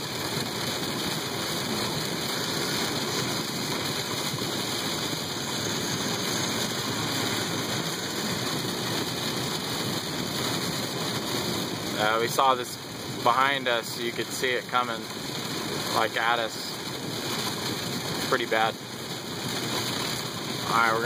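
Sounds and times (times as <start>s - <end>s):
heavy rain on a car: 0.0s - 21.0s
tyres hissing on wet road: 0.0s - 21.0s.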